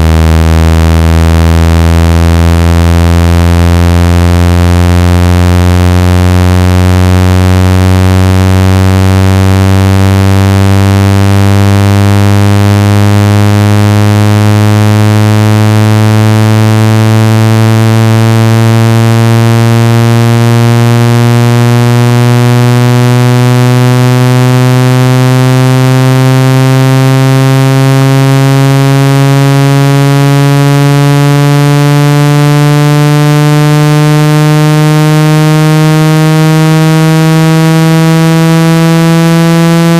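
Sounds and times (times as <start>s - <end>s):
electronic buzzing tone rising: 0.0s - 39.9s.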